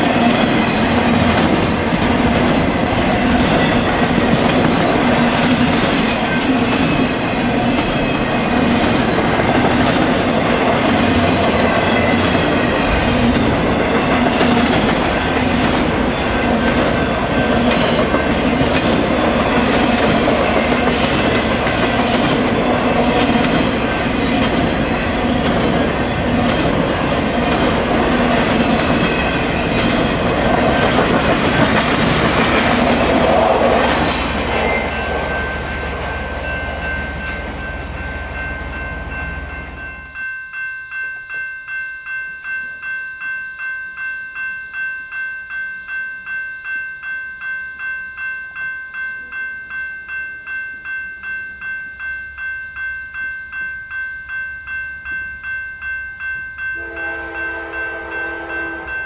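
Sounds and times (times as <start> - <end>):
freight train rumbling past: 0.0 - 41.0, 47.8 - 59.0.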